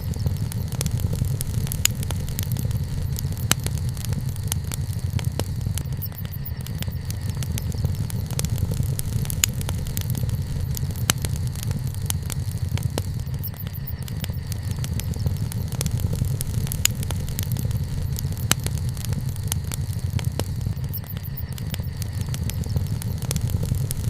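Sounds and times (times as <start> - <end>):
bonfire crackling and popping: 0.0 - 24.0
low fire rumble: 0.0 - 24.0.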